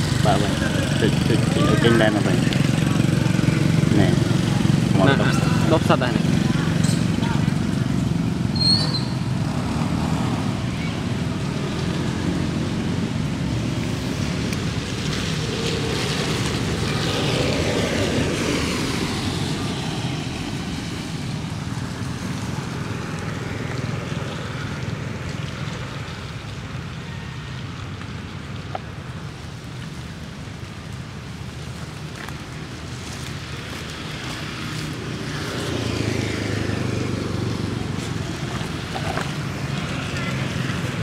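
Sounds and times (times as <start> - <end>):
vehicle passing by: 0.0 - 27.8, 31.3 - 41.0
road traffic rumble: 0.0 - 41.0.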